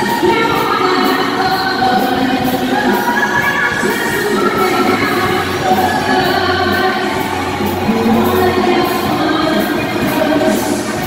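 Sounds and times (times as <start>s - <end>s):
loud dance music with singing: 0.0s - 11.0s.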